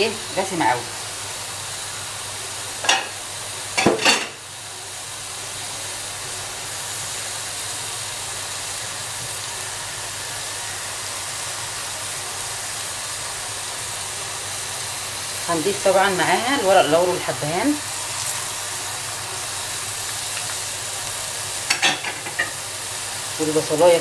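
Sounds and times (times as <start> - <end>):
meat sizzling in a pot: 0.0 - 24.0.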